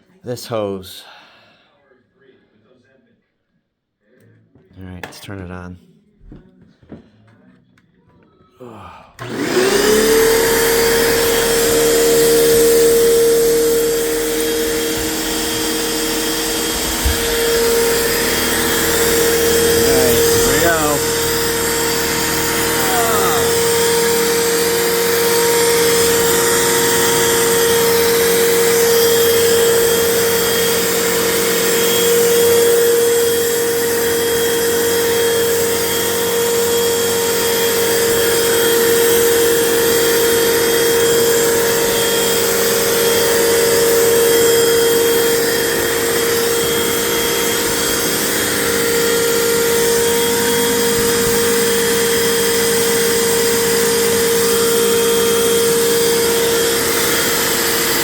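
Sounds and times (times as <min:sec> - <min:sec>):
vacuum cleaner running: 0:08.7 - 0:58.0.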